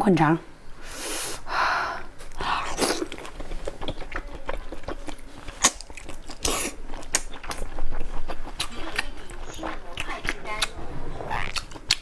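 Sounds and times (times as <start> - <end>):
wet chewing mouth clicks: 2.4 - 12.0.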